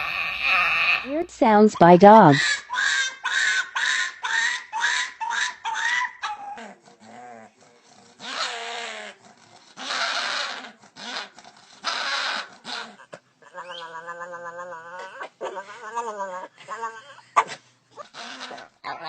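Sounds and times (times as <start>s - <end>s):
dog making odd vocal noises: 0.0s - 1.3s, 2.2s - 19.0s.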